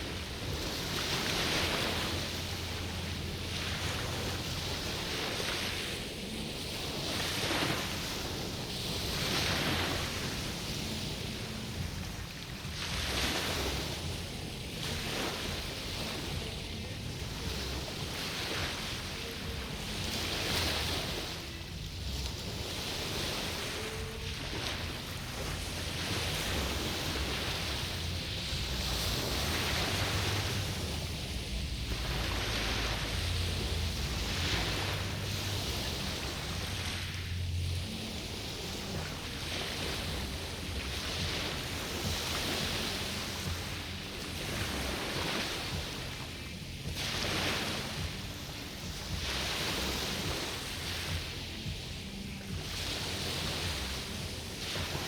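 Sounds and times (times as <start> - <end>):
low rumble of wind: 0.0 - 55.0
small waves washing ashore: 0.0 - 55.0.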